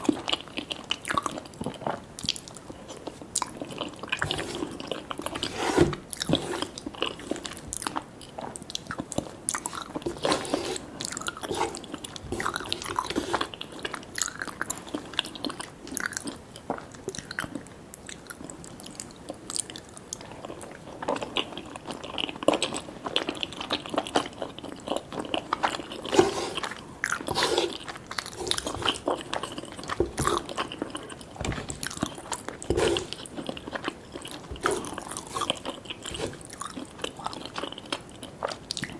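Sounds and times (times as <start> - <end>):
chewing with crunchy bites: 0.0 - 38.9.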